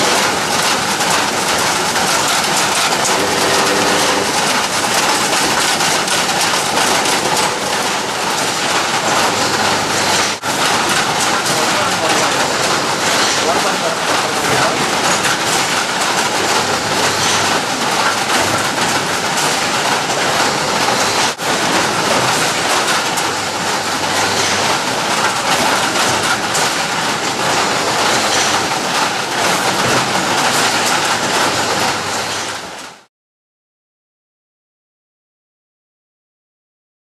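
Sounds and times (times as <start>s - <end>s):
fruit clattering on conveyor belts: 0.0s - 33.0s.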